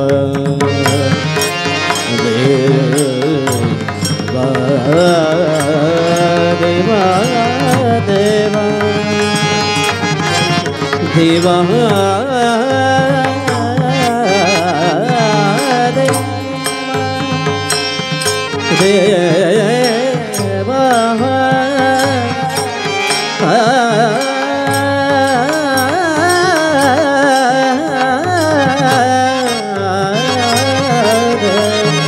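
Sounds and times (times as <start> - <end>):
hand cymbals struck in rhythm: 0.0 - 32.0
instrumental backing: 0.0 - 32.0
men singing devotional songs: 0.0 - 32.0.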